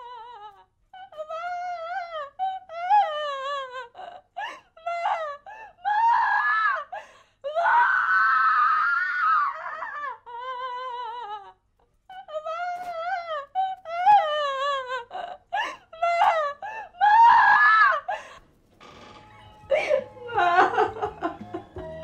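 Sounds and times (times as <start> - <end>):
woman wailing and sobbing: 0.0 - 22.0.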